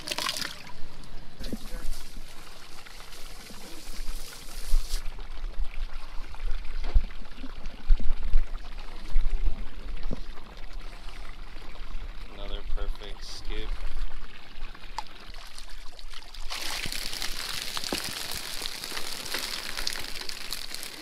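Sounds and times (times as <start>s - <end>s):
water pouring and splashing: 0.0s - 12.2s, 13.1s - 21.0s.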